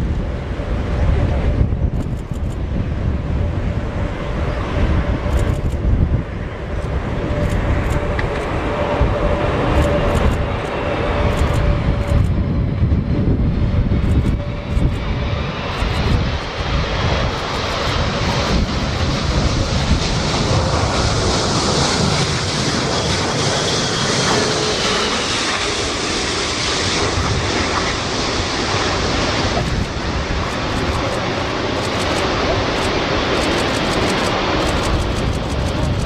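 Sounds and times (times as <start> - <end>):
faint turbine whine: 0.0 - 36.0
jet engines roaring: 0.0 - 36.0
wind rumble on microphone: 0.0 - 36.0.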